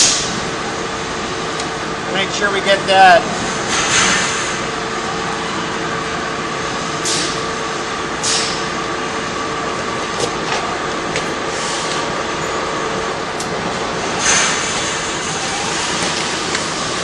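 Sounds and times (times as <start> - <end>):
drain-cleaning machine humming: 0.0 - 17.0.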